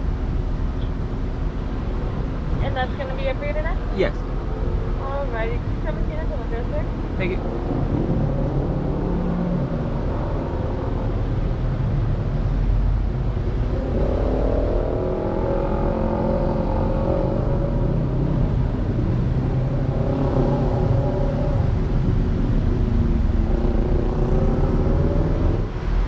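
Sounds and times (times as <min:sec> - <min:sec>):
car engine: 0:00.0 - 0:26.0
road rumble: 0:00.0 - 0:26.0.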